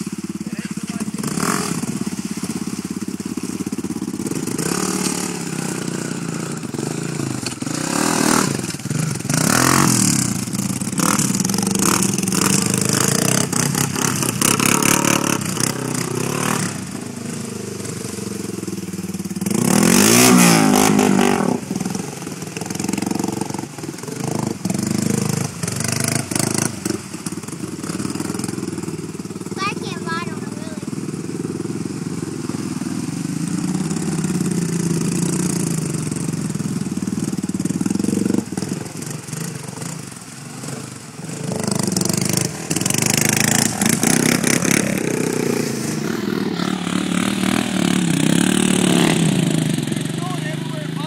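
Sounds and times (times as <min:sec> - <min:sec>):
atv engine revving: 0:00.0 - 0:51.0
churning through muddy water: 0:00.0 - 0:51.0.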